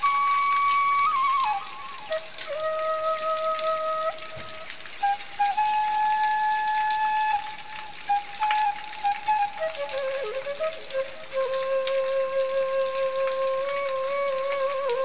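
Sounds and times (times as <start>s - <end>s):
heavy rain hiss: 0.0s - 15.0s
slow flute melody: 0.0s - 15.0s.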